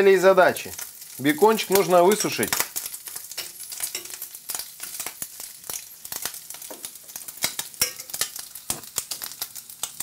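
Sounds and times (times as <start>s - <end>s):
bacon sizzling in a frying pan: 0.0s - 10.0s
crackling fat pops: 0.7s - 10.0s.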